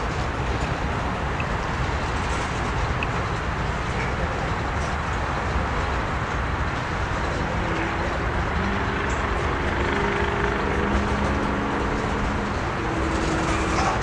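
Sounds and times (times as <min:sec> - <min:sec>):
steel wheels rumbling on rails: 0:00.0 - 0:14.0.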